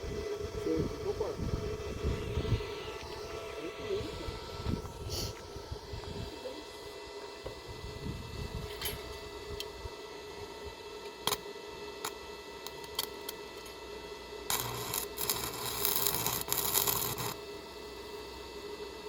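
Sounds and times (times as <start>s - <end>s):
arc welder crackling and hissing: 0.0s - 19.0s
low electrical hum: 0.0s - 19.0s.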